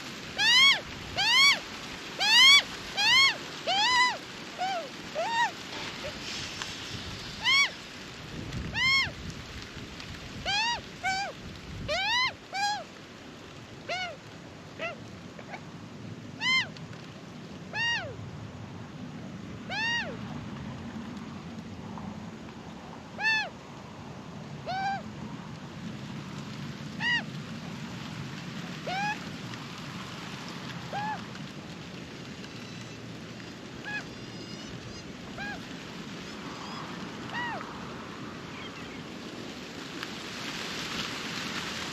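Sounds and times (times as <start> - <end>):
steady outdoor hiss: 0.0 - 41.9.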